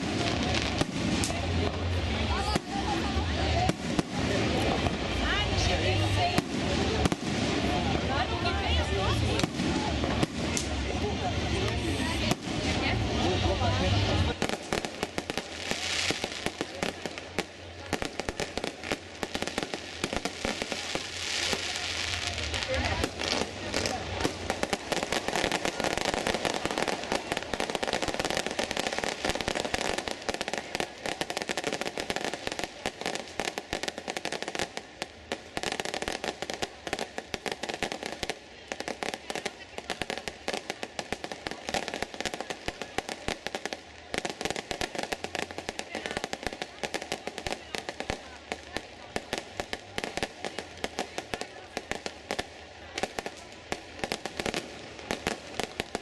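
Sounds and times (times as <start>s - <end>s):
fireworks hiss: 0.0s - 56.0s
fireworks popping and crackling: 0.0s - 56.0s.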